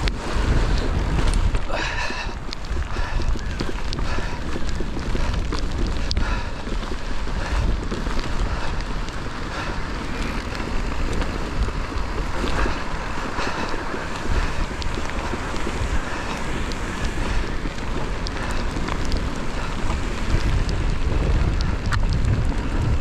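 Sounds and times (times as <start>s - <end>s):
bike clicks and rattles: 0.0s - 23.0s
bike tyre noise on trail: 0.0s - 23.0s
wind buffeting microphone: 0.0s - 23.0s.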